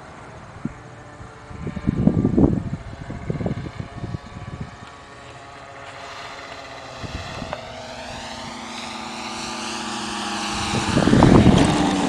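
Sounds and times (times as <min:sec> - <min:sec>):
model plane propellers droning: 0:00.0 - 0:12.0.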